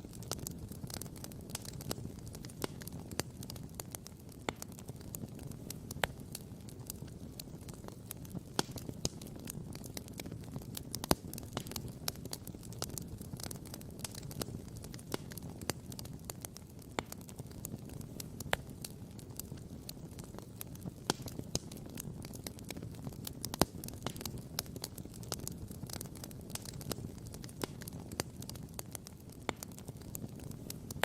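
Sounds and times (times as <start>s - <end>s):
wood campfire crackling and popping: 0.0s - 31.0s.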